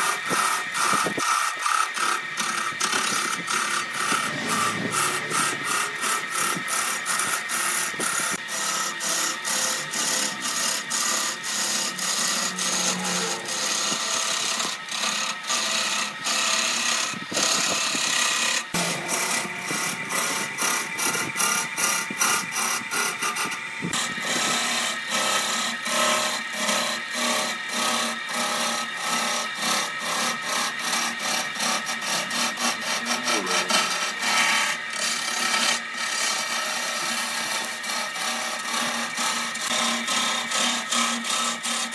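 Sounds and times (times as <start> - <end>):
lathe tool scraping wood: 0.0 - 41.9.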